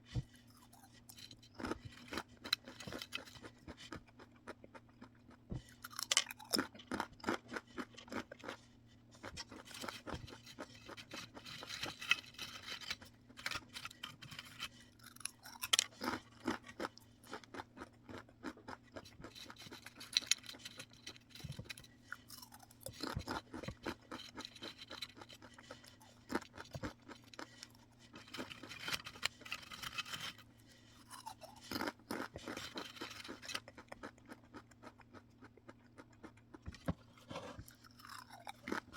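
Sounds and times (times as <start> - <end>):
quiet chewing: 0.0 - 38.9
crunchy snack crunching: 0.4 - 30.4, 31.0 - 38.9.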